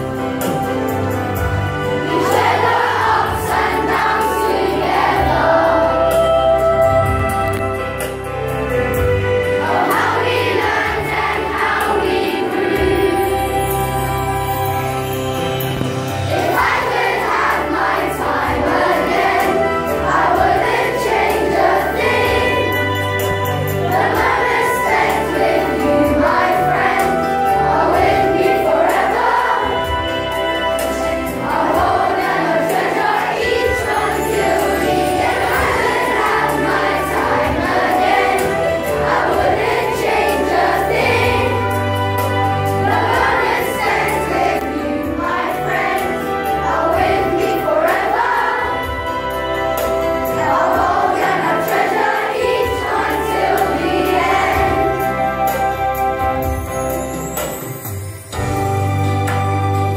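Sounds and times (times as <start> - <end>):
children singing together: 0.0 - 7.6, 8.7 - 56.2.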